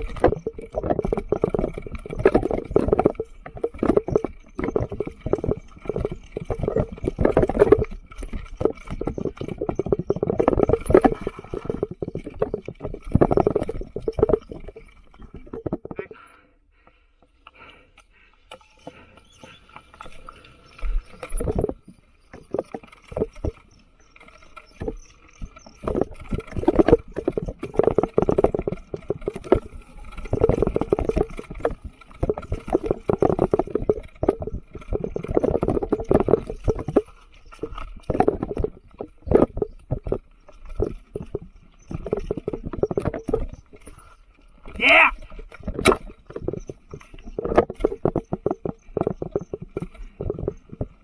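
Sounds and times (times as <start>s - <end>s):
mountain bike rattling on rocks: 0.0s - 51.0s.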